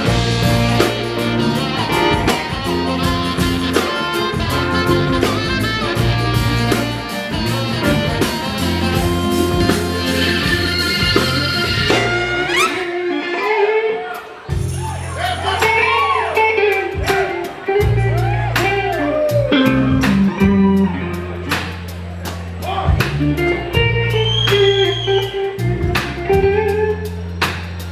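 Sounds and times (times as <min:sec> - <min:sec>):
steady drum beat: 0:00.0 - 0:12.8, 0:14.2 - 0:27.9
electric guitar: 0:00.0 - 0:14.7, 0:15.3 - 0:22.1, 0:22.9 - 0:27.9
bass guitar: 0:00.0 - 0:27.9.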